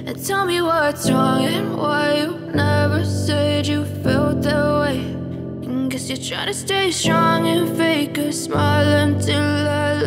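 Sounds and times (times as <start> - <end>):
pop song with singing: 0.0 - 10.0.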